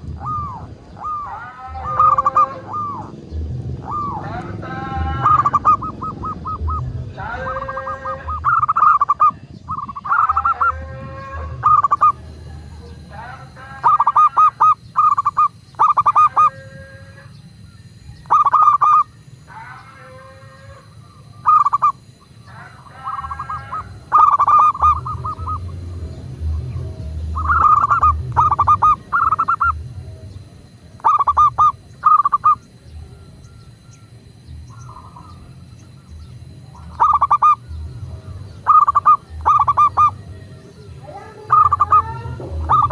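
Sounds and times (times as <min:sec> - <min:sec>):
low rumble: 0:00.0 - 0:13.6, 0:20.6 - 0:42.9
dove cooing: 0:00.0 - 0:42.9.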